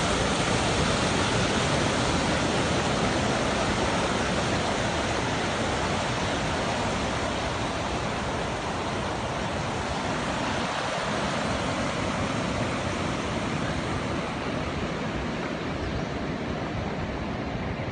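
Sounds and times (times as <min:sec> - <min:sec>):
river water rushing: 0:00.0 - 0:17.9.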